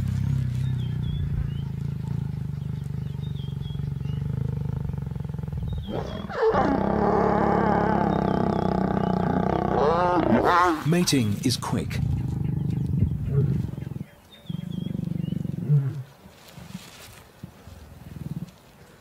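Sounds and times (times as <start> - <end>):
lioness snarling: 0.0 - 11.0, 11.6 - 16.1
lion growling: 0.0 - 16.1.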